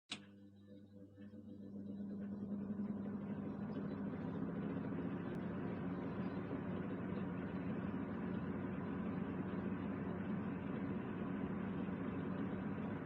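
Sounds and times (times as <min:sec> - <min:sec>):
exhaust fan motor hum: 0:00.1 - 0:13.0.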